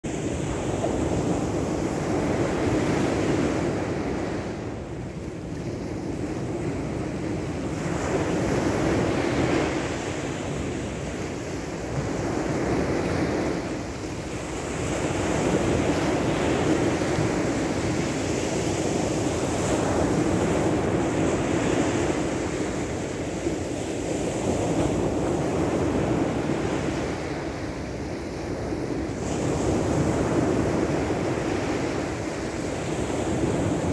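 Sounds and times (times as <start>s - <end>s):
ocean waves washing in: 0.1s - 33.9s.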